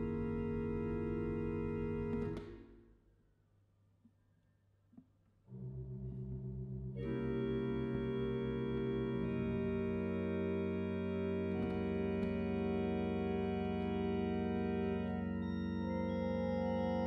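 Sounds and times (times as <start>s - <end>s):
organ playing held chords: 0.0s - 2.4s, 5.5s - 17.0s.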